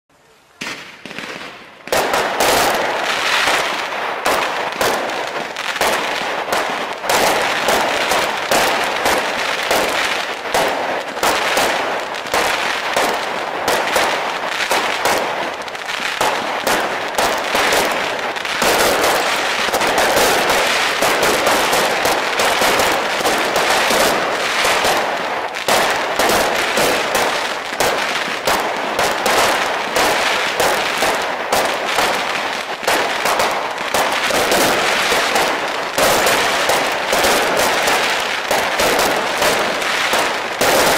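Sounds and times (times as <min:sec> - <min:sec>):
fireworks bangs and crackling: 0:00.2 - 0:40.9.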